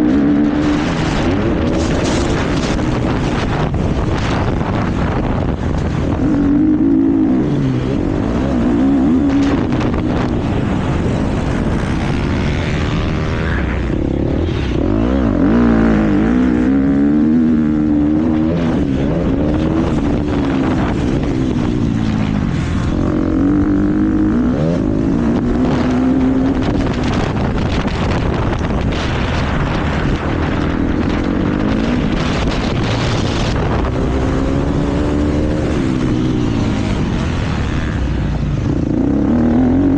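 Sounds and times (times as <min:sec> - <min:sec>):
motocross bike engine revving: 0:00.0 - 0:39.9
wind rumble: 0:00.0 - 0:39.9.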